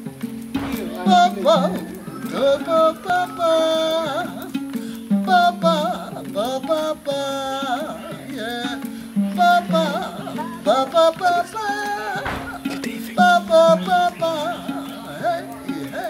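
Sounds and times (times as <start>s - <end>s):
plucked harp: 0.0s - 16.0s
woman singing: 0.6s - 16.0s.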